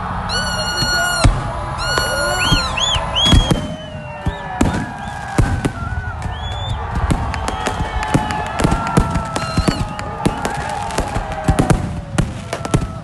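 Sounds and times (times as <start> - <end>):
high whistling fireworks: 0.0 - 13.0
fireworks bursting with bangs: 0.1 - 13.0.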